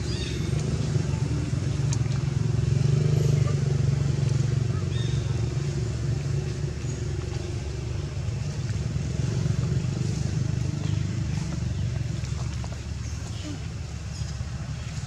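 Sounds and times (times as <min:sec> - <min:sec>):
engine droning hum: 0:00.0 - 0:15.0.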